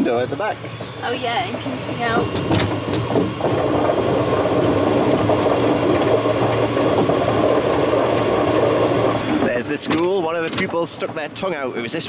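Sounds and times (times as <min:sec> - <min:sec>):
monorail car rattling on track: 0:00.0 - 0:12.0.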